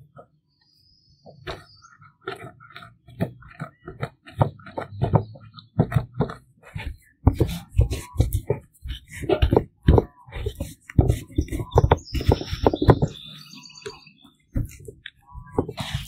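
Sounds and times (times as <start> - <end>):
stone grinding walnuts in wooden bowl: 1.4 - 13.6, 14.6 - 16.0.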